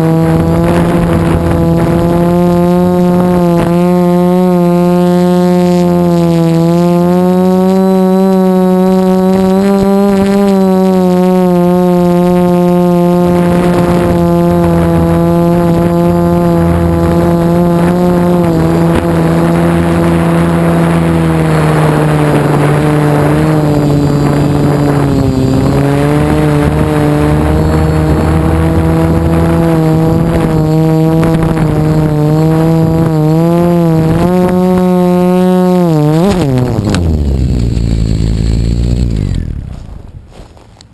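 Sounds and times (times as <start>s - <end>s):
quadcopter motors buzzing: 0.0s - 40.9s.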